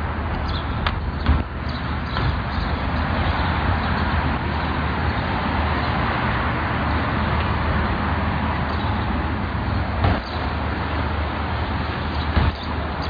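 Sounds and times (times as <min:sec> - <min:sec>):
outdoor noise haze: 0:00.0 - 0:13.0.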